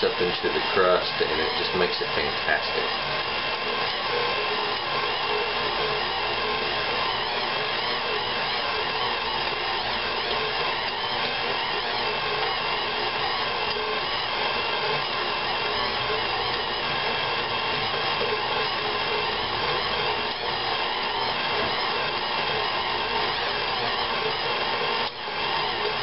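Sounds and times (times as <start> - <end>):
stand mixer running: 0.0 - 26.0.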